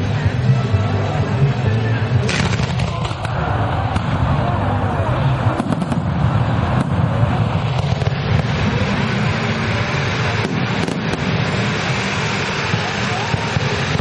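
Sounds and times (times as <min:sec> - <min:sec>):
fountain fireworks hissing: 0:00.0 - 0:14.0.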